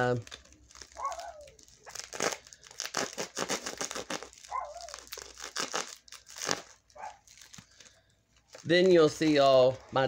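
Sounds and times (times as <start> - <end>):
bubble wrap crinkling: 0.0 - 10.0.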